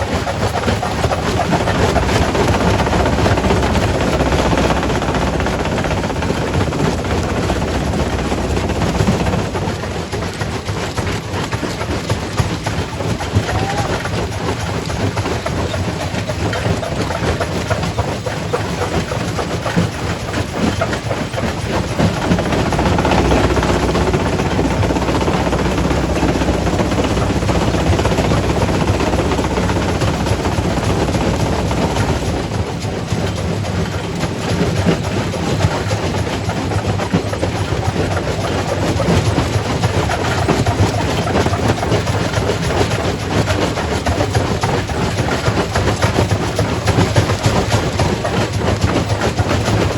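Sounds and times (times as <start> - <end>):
rock crusher rumbling: 0.0 - 49.9.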